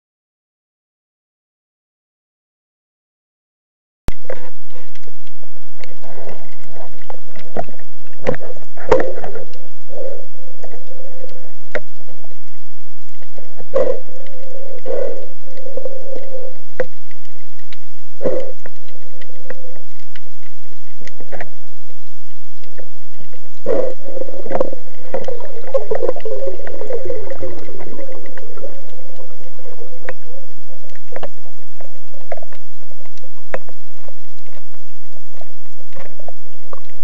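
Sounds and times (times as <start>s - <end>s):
muffled rush of water: 4.1s - 37.0s
underwater sharp clicks and knocks: 4.1s - 37.0s.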